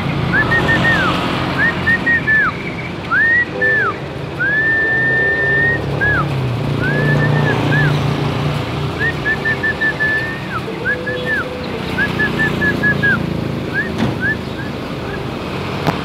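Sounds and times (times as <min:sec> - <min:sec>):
low traffic rumble: 0:00.0 - 0:16.0
songbird whistling: 0:00.2 - 0:08.0, 0:09.0 - 0:15.3.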